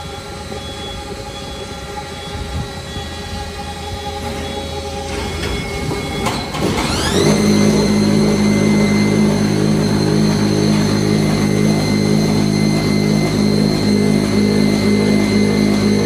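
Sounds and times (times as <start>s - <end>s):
industrial machinery hum: 0.0s - 16.0s
motor spinning up whine: 0.0s - 16.0s.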